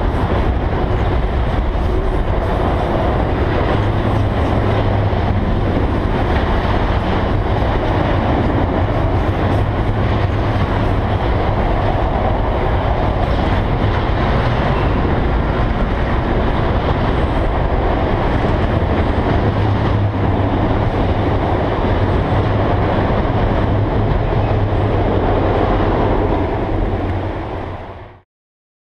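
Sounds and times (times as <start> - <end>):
freight train wheels rumbling: 0.0 - 28.2.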